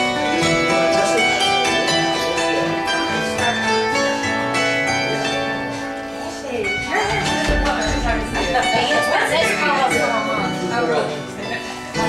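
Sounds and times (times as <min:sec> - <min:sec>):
acoustic instrumental duo playing: 0:00.0 - 0:12.0.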